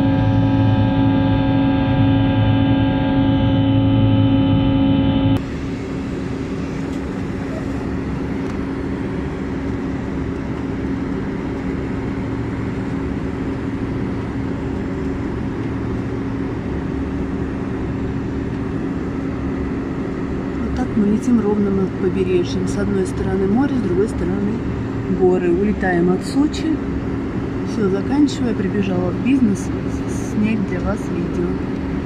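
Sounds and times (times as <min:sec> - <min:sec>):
airliner cabin engine drone: 0:00.0 - 0:32.0
droning with steady tones: 0:00.0 - 0:32.0.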